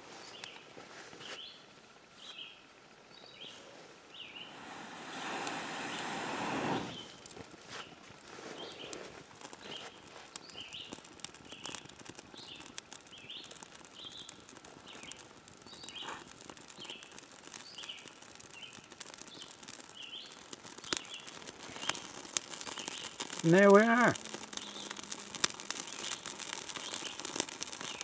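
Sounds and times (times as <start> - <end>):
fire crackling and popping: 0.0 - 28.0.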